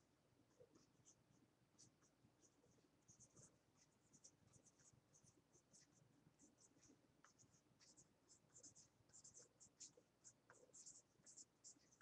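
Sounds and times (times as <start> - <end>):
pen scratching on paper: 0.5 - 12.0.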